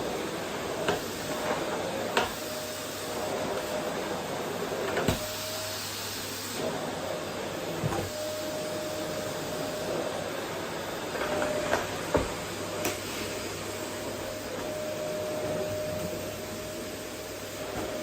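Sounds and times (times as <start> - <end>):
vacuum cleaner on wooden floor: 0.0 - 18.0.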